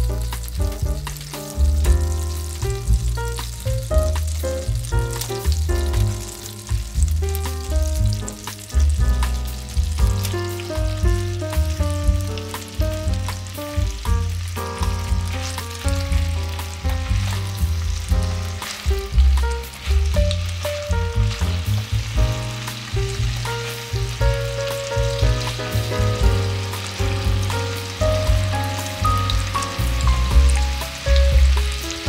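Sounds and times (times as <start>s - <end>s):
background music: 0.0s - 32.0s
food sizzling in oil: 0.0s - 32.0s.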